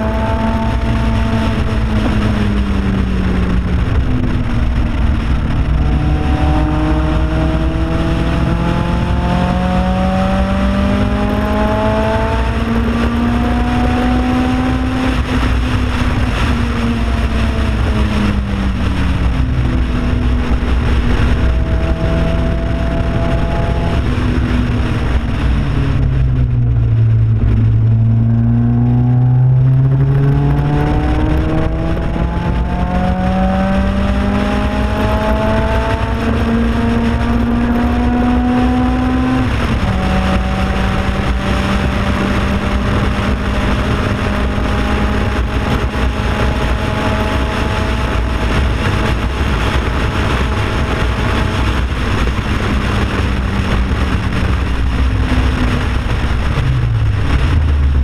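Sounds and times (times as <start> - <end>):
car engine revving: 0.0 - 58.0
road and wind rumble: 0.0 - 58.0.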